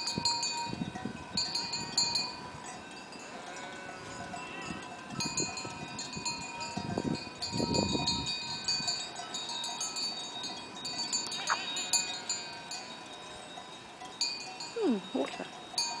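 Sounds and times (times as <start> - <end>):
goat bells clinking: 0.0 - 16.0.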